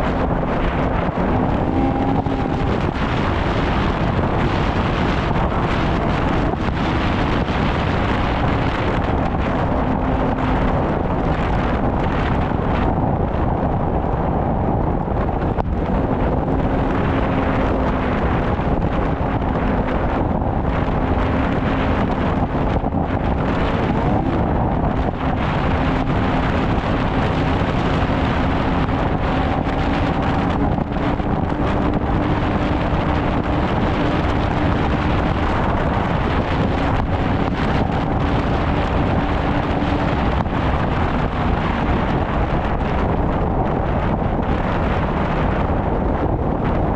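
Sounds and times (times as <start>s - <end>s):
snowmobile engine running: 0.0s - 46.9s
wind noise on microphone: 0.0s - 46.9s.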